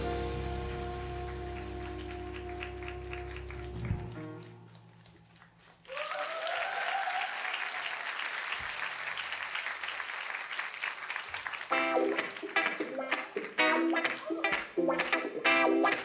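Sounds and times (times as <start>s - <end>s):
audience clapping: 0.0s - 16.0s
people cheering: 0.0s - 16.0s.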